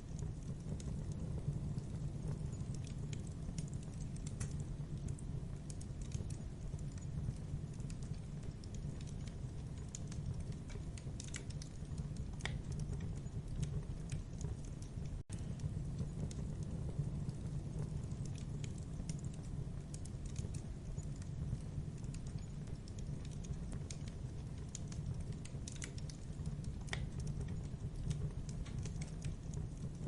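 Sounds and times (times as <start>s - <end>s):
campfire crackling and popping: 0.0s - 30.0s
low rumble of burning wood: 0.0s - 30.0s.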